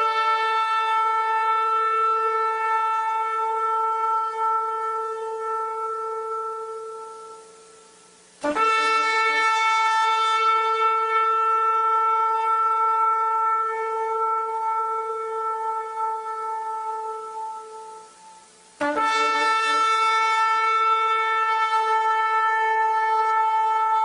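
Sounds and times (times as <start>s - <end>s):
shofar blast: 0.0s - 24.0s.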